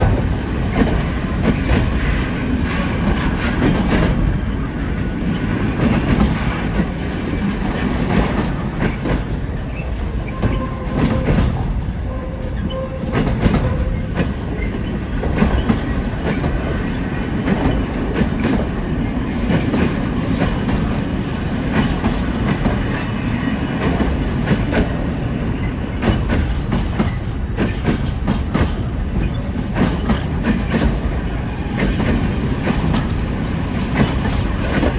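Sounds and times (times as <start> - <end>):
train wheels clattering over rails: 0.0 - 34.9.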